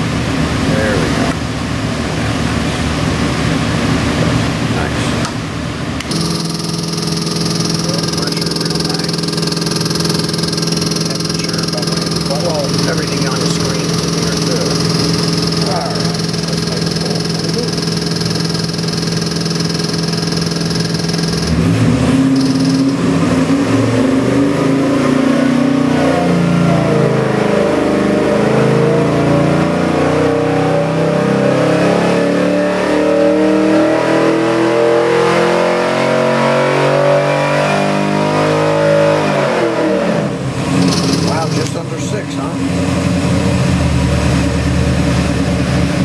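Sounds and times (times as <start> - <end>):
engine idling and revving: 0.0 - 46.0.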